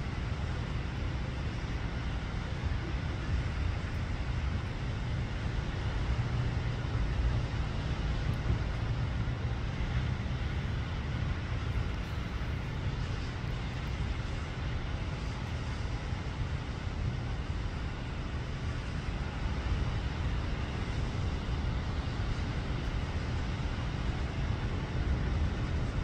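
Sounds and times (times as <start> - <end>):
faint hiss: 0.0 - 26.0
low outdoor rumble: 0.0 - 26.0.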